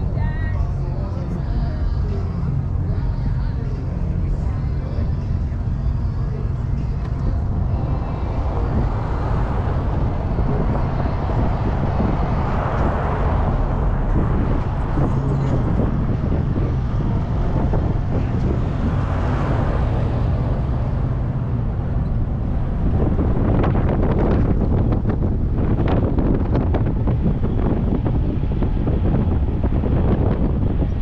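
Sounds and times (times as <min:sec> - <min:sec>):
car road and wind noise: 0:00.0 - 0:31.0.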